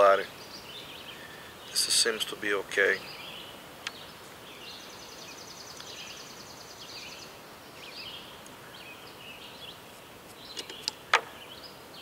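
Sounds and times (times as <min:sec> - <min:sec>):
faint birds chirping: 0:00.0 - 0:12.0
steady background hiss: 0:00.0 - 0:12.0.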